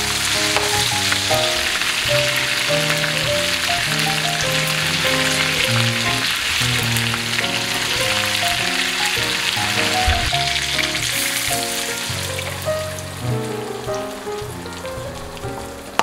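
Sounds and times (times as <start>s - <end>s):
background music: 0.0s - 16.0s
meatballs sizzling in skillet: 0.0s - 16.0s.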